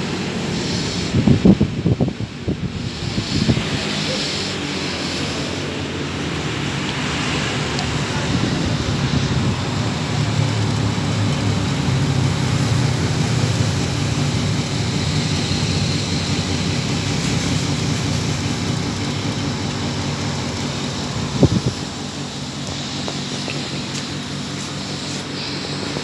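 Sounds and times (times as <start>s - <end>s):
compressor low hum: 0.0s - 26.0s
condenser fan rushing: 0.0s - 26.0s.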